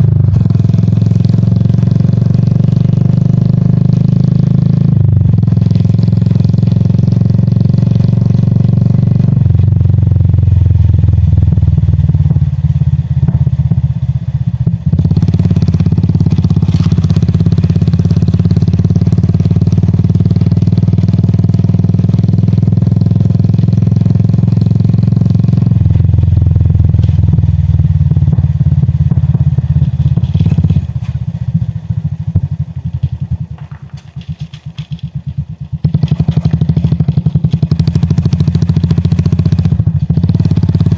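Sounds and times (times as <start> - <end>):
motorcycle engine thumping: 0.0 - 3.4, 5.0 - 40.9.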